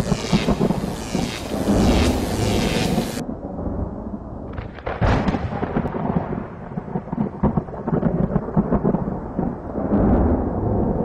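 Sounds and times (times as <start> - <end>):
thunder crash and rumble: 0.0 - 11.0.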